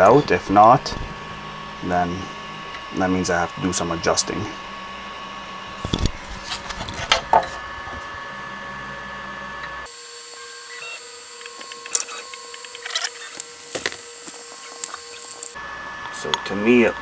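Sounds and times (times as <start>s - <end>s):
stepper motors whirring and chirping: 0.0s - 7.2s, 9.3s - 17.0s
printer fan hum: 0.0s - 17.0s.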